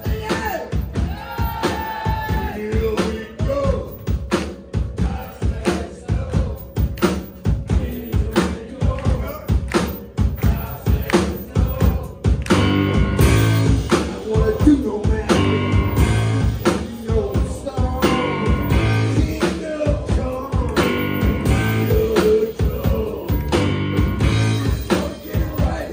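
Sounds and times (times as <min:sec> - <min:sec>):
drum kit beat: 0:00.0 - 0:25.9
rock band playing: 0:00.0 - 0:25.9.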